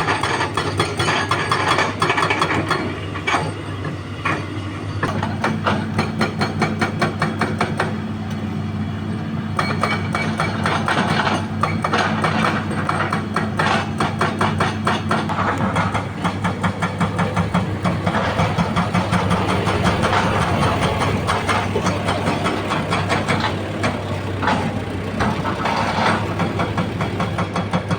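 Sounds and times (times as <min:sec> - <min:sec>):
hydraulic breaker hammering rock: 0:00.0 - 0:03.5, 0:04.2 - 0:08.0, 0:09.6 - 0:27.9
diesel engine running: 0:00.0 - 0:27.9.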